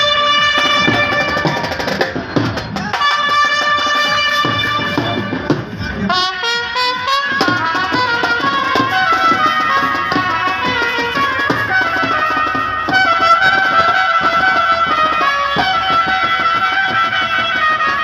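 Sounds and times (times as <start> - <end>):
side drum beat: 0.0 - 18.0
trumpets playing melody: 0.0 - 18.0.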